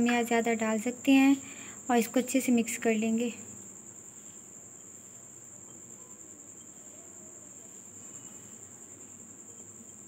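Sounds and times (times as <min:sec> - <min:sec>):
cricket trilling: 0:00.0 - 0:10.0
faint low background noise: 0:00.0 - 0:10.0.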